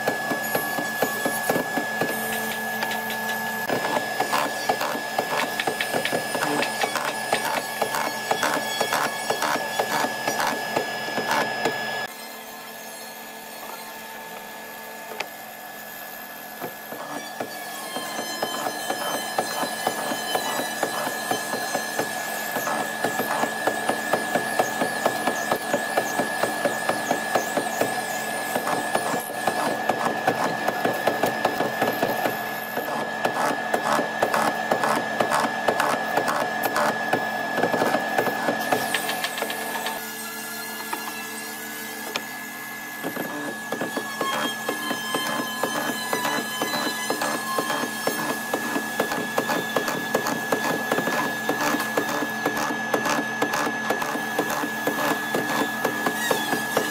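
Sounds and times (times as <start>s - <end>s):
mortising machine motor whine: 0.0s - 56.9s.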